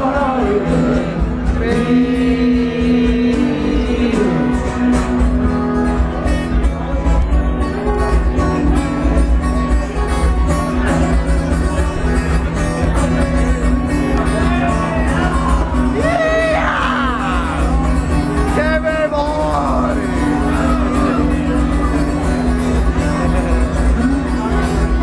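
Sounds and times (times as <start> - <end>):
live band instrumental with guitar: 0.0 - 25.0.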